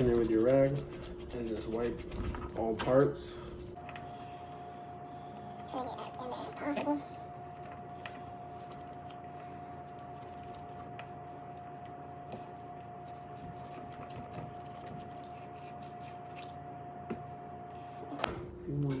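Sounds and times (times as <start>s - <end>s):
faint high tone hum: 0.0s - 19.0s.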